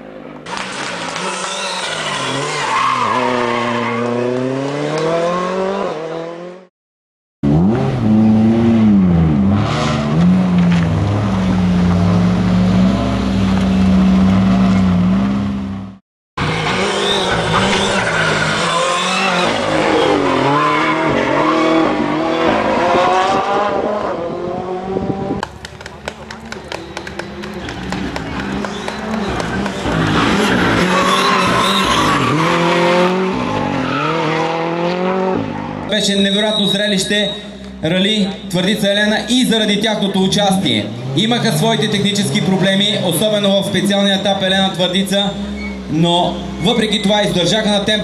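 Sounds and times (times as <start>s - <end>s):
rally car engine revving: 0.5s - 6.7s, 7.4s - 36.6s, 37.6s - 48.0s.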